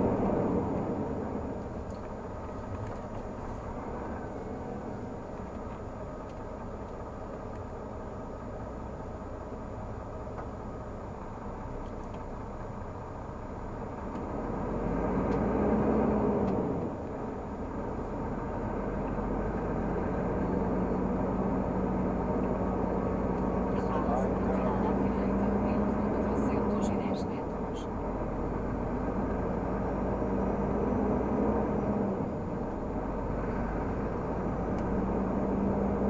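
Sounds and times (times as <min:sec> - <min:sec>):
truck diesel engine droning: 0:00.0 - 0:36.0.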